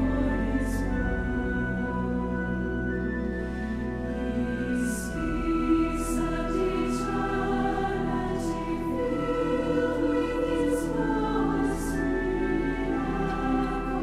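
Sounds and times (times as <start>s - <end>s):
choir singing a hymn: 0.0s - 2.2s, 4.1s - 14.0s
pipe organ: 0.0s - 14.0s.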